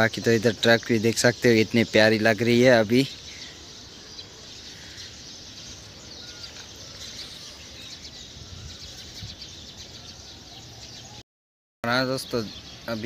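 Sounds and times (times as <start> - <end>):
faint bird chirps: 0.0 - 11.2, 11.8 - 13.0.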